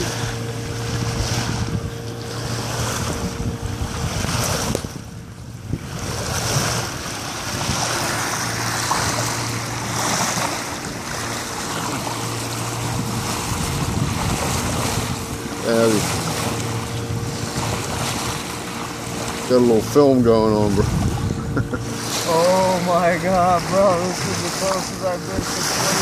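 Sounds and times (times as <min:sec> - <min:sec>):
water rushing along boat bow: 0:00.0 - 0:26.0
wind buffeting microphone: 0:00.0 - 0:26.0.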